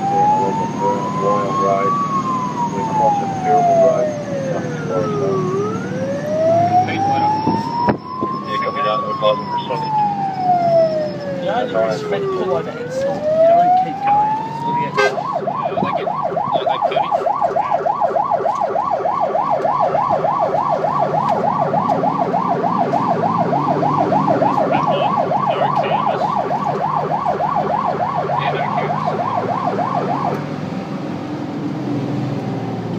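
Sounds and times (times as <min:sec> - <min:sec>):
fire truck siren: 0:00.0 - 0:32.9
truck engine and road noise: 0:00.0 - 0:32.9.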